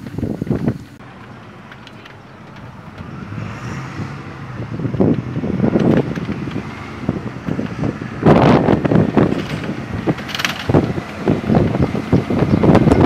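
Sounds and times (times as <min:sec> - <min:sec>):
bus engine and road noise: 0:00.0 - 0:13.0
wind buffeting microphone: 0:00.0 - 0:13.0.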